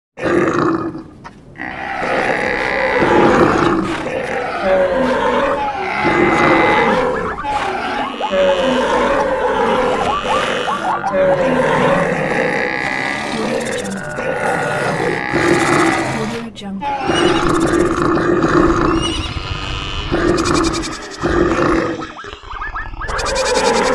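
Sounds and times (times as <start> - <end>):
animals calling roaring and grunting: 0.2 - 23.9.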